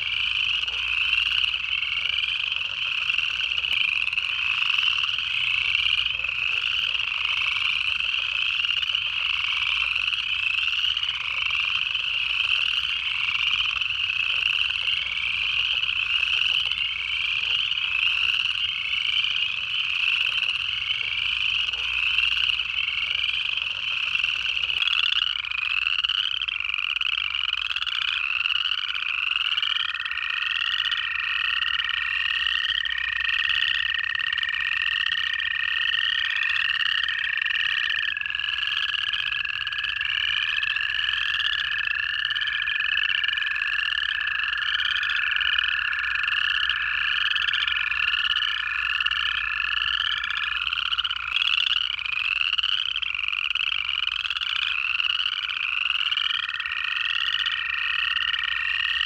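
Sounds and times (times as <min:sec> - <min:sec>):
frogs trilling in chorus: 0:00.0 - 0:59.0.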